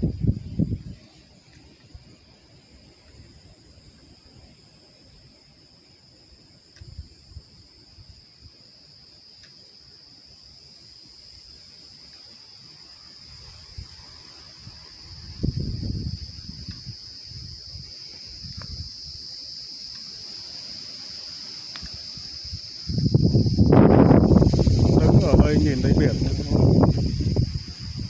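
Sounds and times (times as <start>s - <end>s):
insect chorus drone: 0.0s - 28.0s.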